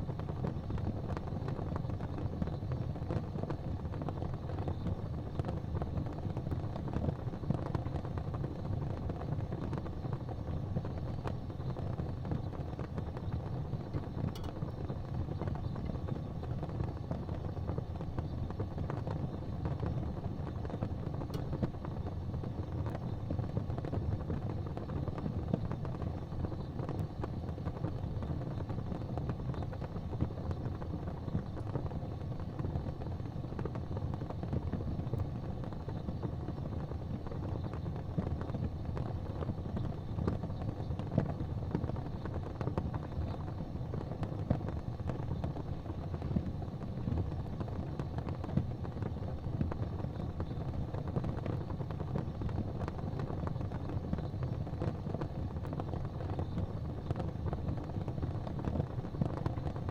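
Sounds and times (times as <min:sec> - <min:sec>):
fireplace fire rumbling and crackling: 0:00.0 - 0:59.9.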